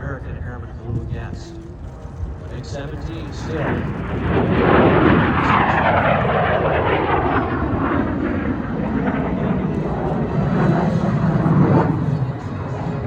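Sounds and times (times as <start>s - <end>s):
jet fighter roaring past: 1.6s - 13.0s.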